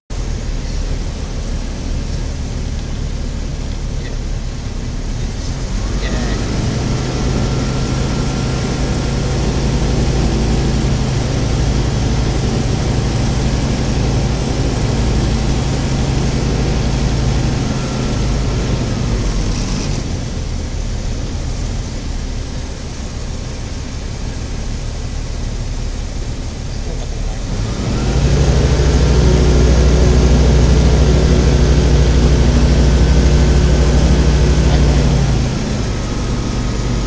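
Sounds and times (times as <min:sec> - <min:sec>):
propeller aircraft engine running: 0:00.0 - 0:37.0
rushing air noise: 0:00.1 - 0:37.0.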